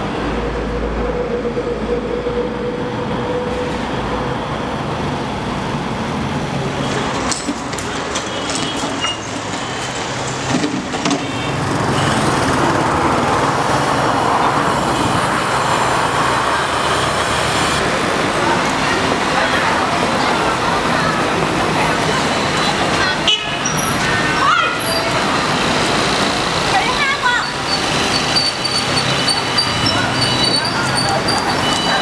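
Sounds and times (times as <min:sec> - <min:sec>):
murmur of walking crowd: 0:00.0 - 0:32.0
steady traffic noise: 0:00.0 - 0:32.0.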